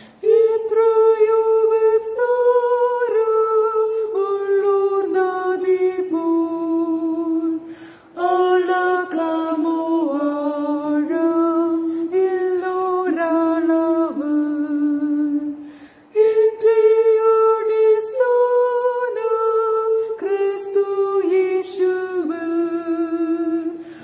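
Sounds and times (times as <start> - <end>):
person singing a hymn unaccompanied: 0.0 - 24.0.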